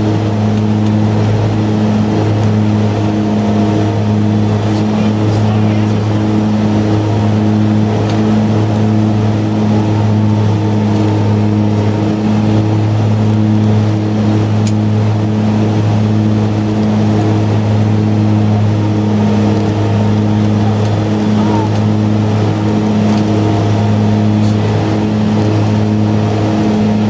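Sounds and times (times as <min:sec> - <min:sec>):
turboprop engines droning in cabin: 0:00.0 - 0:27.0.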